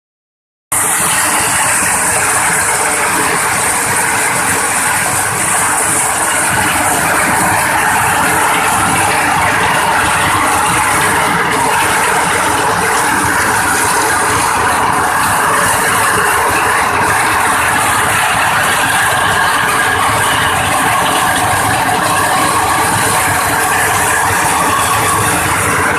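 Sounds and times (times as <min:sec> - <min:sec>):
corn sheller clattering: 0:00.7 - 0:25.9.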